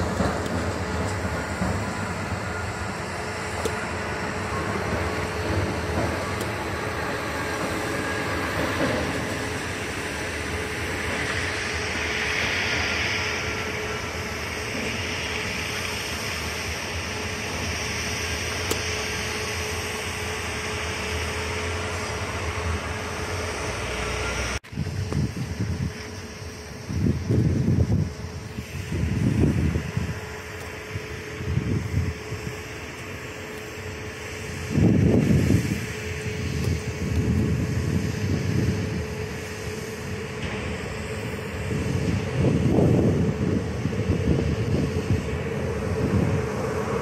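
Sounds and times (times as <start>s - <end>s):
constant humming tone: 0.0s - 47.0s
hiss: 0.0s - 47.0s
train rumble: 0.0s - 47.0s.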